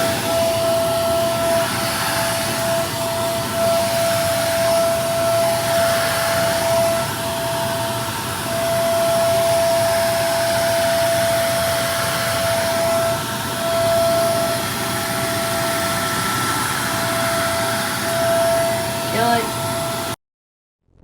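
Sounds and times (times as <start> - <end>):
vacuum cleaner running: 0.0 - 20.2.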